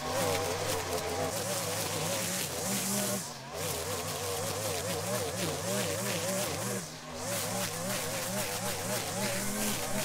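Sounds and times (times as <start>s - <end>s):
string trimmer cutting grass: 0.0s - 10.0s.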